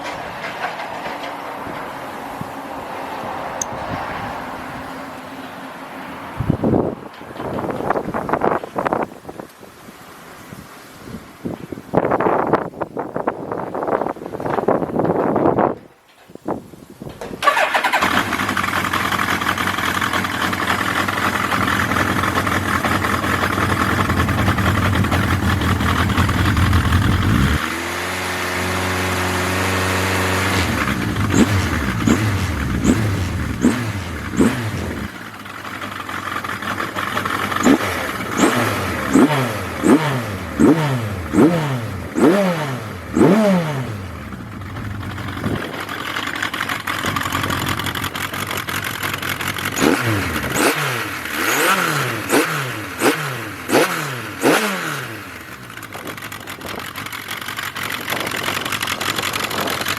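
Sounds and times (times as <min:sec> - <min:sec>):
motorcycle engine idling and revving: 0:00.0 - 0:09.4, 0:17.4 - 0:59.9.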